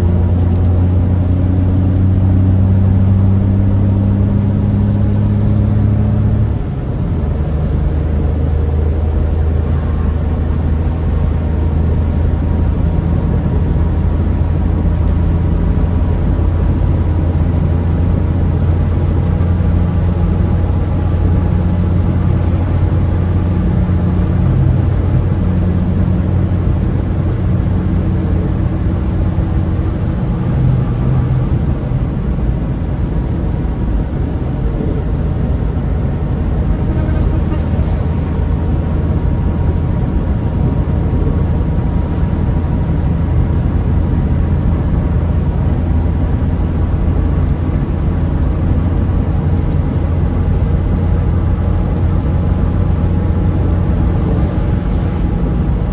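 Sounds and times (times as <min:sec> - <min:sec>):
car engine hum: 0:00.0 - 0:55.9
road noise: 0:00.0 - 0:55.9.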